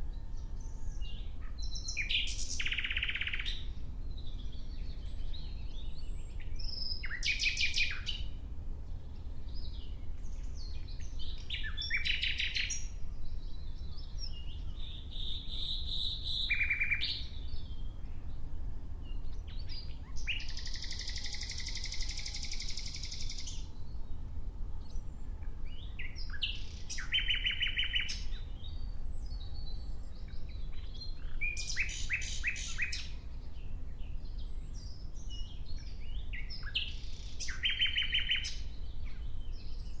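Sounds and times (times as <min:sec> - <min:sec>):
nightingale singing: 0:00.0 - 0:08.4, 0:09.1 - 0:18.2, 0:19.1 - 0:24.1, 0:25.7 - 0:40.0.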